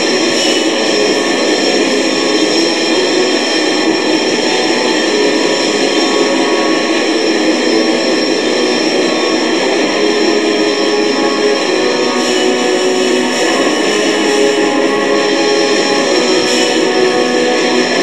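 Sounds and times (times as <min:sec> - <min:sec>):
black metal with distorted guitar: 0:00.0 - 0:18.0.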